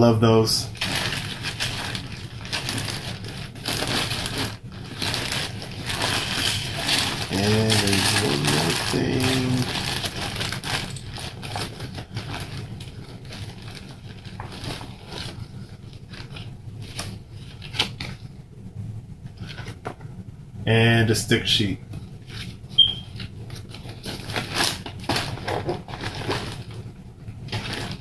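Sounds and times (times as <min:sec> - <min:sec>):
packaging crinkling and rustling: 0:00.7 - 0:18.3, 0:22.2 - 0:28.0.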